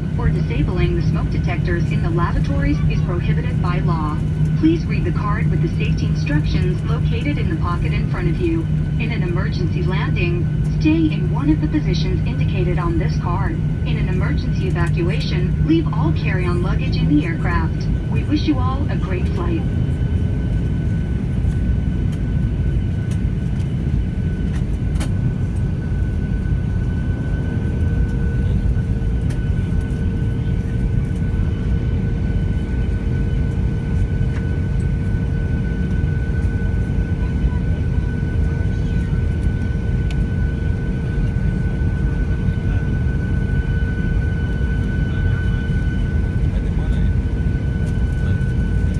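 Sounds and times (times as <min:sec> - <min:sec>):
airliner engine rumble: 0:00.0 - 0:48.9
lower whine: 0:00.0 - 0:48.9.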